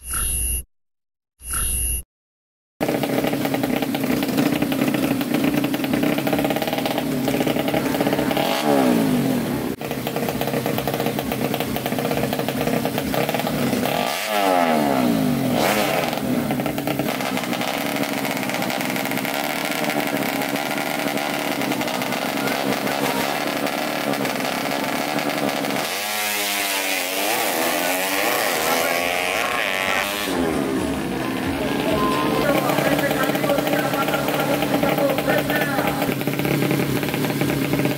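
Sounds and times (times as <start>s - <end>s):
motorcycle engine revving: 2.8s - 37.9s.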